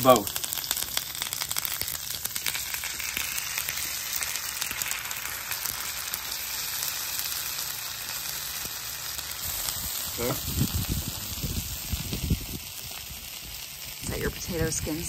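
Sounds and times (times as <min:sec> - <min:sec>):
butter sizzling on griddle: 0:00.0 - 0:15.0.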